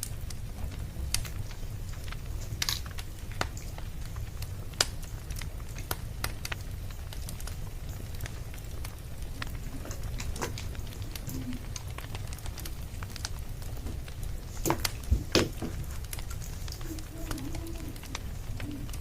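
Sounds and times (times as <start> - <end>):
fire pops: 0.0 - 19.0
wood fire crackling: 0.0 - 19.0.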